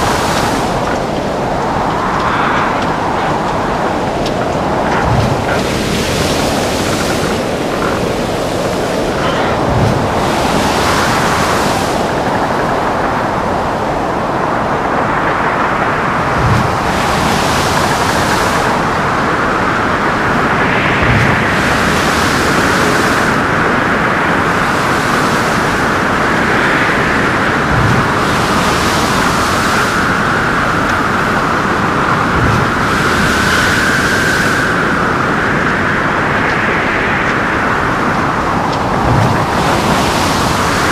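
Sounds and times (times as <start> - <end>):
heavy seas: 0.0 - 40.9
whistling wind: 0.0 - 40.9
wind rushing: 0.0 - 40.9.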